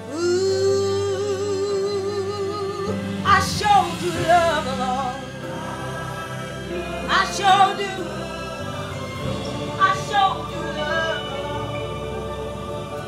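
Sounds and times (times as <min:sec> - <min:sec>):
choir singing gospel: 0:00.0 - 0:13.0.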